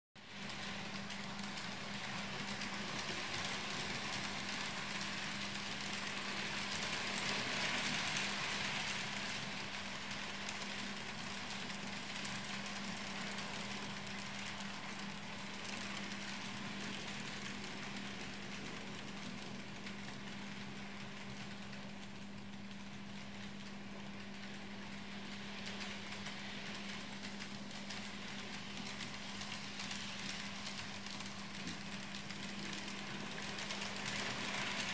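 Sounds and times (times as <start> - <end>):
model train humming on rails: 0.2 - 34.9.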